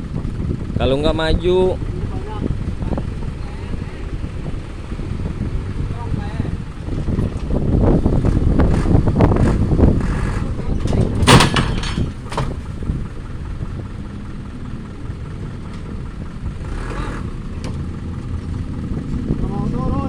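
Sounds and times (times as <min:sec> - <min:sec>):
truck engine rumbling: 0:00.0 - 0:20.0
loud clatter: 0:02.7 - 0:19.4.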